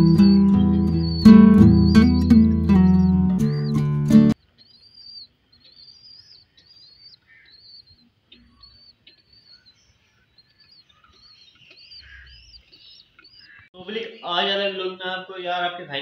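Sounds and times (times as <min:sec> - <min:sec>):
pigeon squabs peeping: 0:00.0 - 0:13.7.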